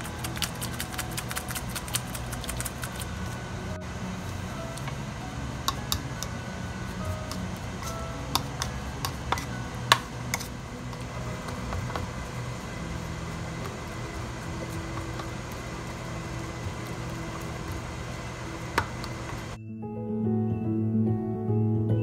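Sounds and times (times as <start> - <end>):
steady hum: 0.0 - 19.6
utensil stirring in a bowl: 0.0 - 19.6
music: 0.0 - 22.0.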